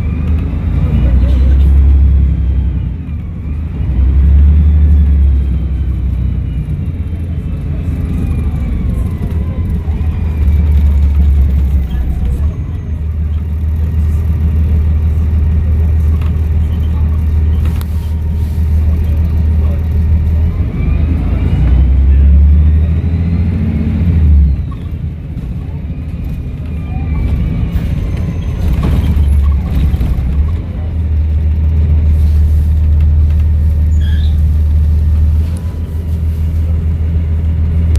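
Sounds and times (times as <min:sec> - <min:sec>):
bus engine rumbling: 0:00.0 - 0:37.9.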